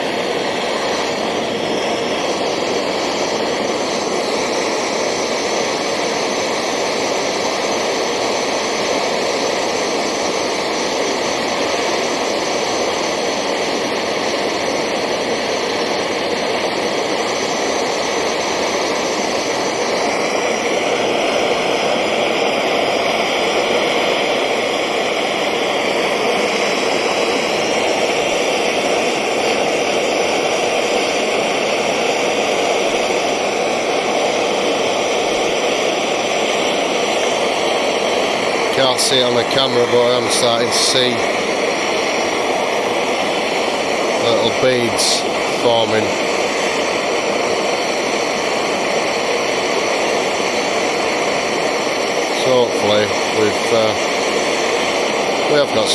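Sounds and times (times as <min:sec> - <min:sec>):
blowtorch flame roaring: 0:00.0 - 0:55.9.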